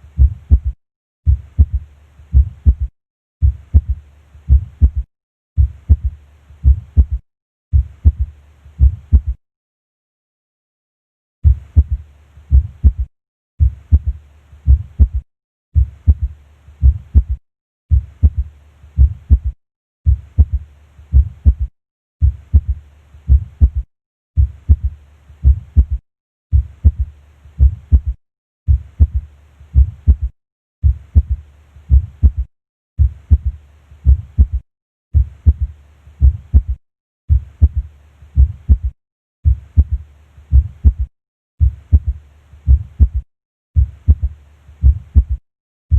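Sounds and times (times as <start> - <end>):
heartbeat gallop rhythm: 0.2 - 9.4, 11.4 - 15.2, 15.8 - 23.8, 24.4 - 34.6, 35.2 - 43.2, 43.8 - 45.4.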